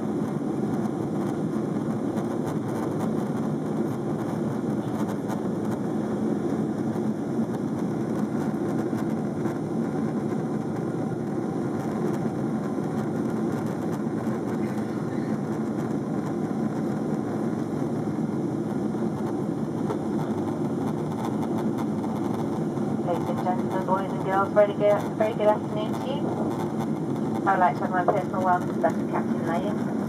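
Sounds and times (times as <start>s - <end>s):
jet airliner cabin drone: 0.0s - 30.0s.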